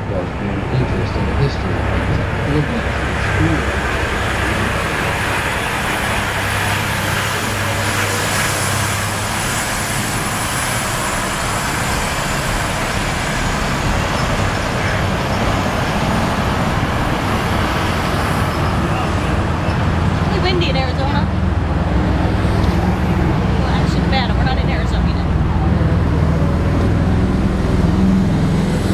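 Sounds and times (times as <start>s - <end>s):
cars driving past: 0.0s - 28.9s
heavy truck driving past: 0.0s - 28.9s
low engine hum: 0.0s - 28.9s.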